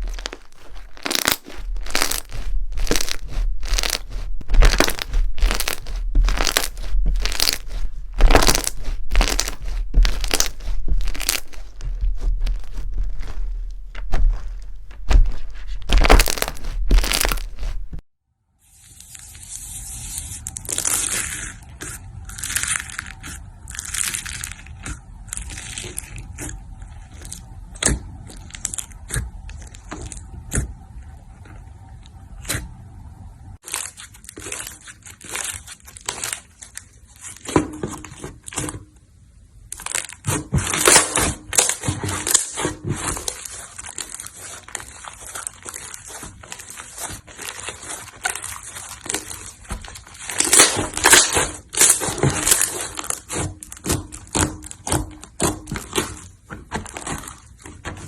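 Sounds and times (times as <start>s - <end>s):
slime crackling and popping: 0.0s - 18.0s, 20.5s - 30.6s, 33.6s - 38.7s, 39.6s - 58.0s.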